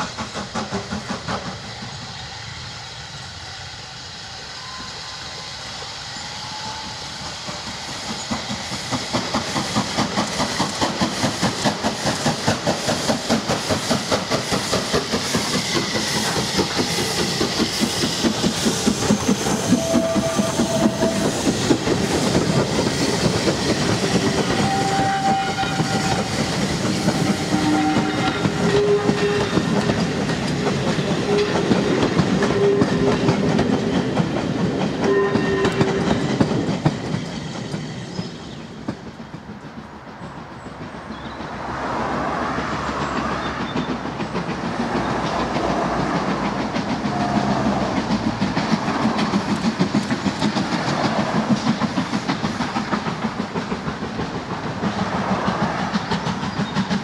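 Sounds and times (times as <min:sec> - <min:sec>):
steam train rhythmic pulse: 0:00.0 - 0:57.0
train carriages rolling past: 0:00.0 - 0:57.0
wheels clicking over rail joints: 0:07.2 - 0:57.0.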